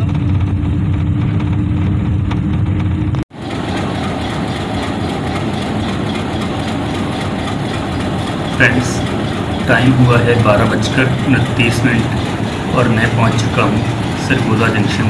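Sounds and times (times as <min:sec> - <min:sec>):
diesel locomotive idling: 0:00.0 - 0:15.0
vehicle engine hum from cabin: 0:00.0 - 0:15.0.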